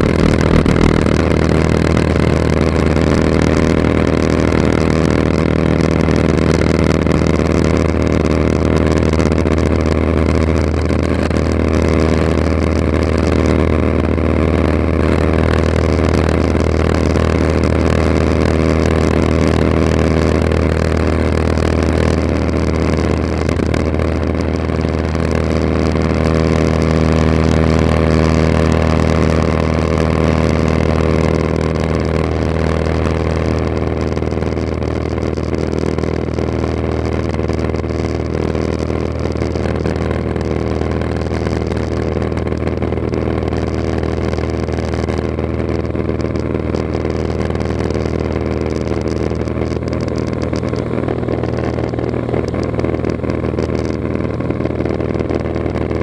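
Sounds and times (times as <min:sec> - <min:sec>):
airplane engine droning in cabin: 0:00.0 - 0:56.0.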